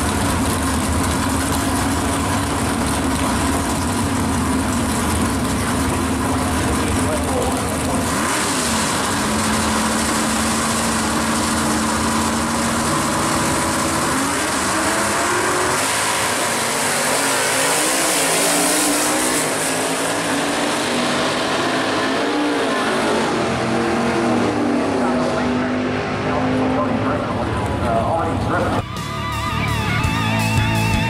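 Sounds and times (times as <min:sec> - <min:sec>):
drag car engines revving: 0:00.0 - 0:31.0.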